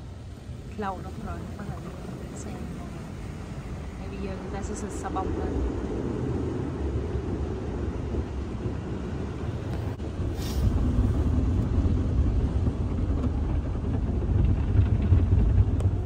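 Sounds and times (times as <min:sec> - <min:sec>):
car wash spraying rumble: 0:00.0 - 0:16.0.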